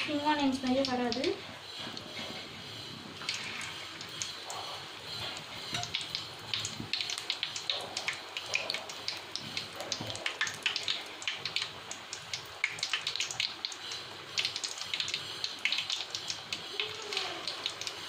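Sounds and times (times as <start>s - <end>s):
food deep-frying in oil: 0.0s - 18.0s.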